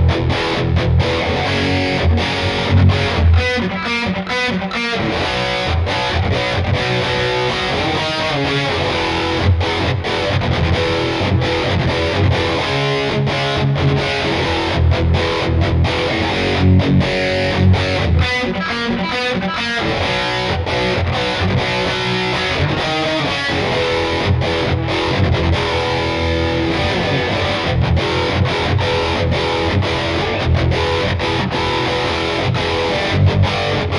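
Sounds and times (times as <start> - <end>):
distorted electric guitar riffs: 0.0 - 33.9.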